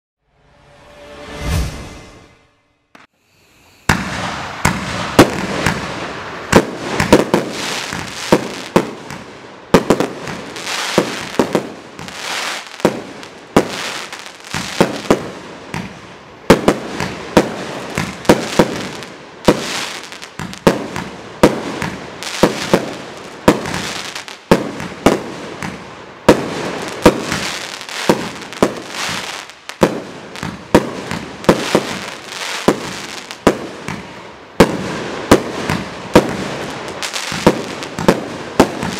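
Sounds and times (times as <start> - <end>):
fireworks crackle: 3.0 - 38.9
fireworks sharp reports: 3.8 - 38.9.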